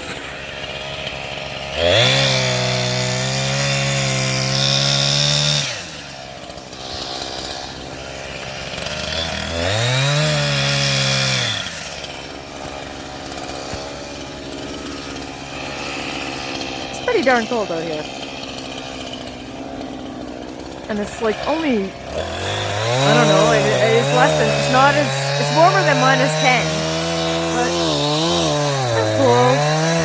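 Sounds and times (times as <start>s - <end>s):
chainsaw revving and idling: 0.0s - 30.0s.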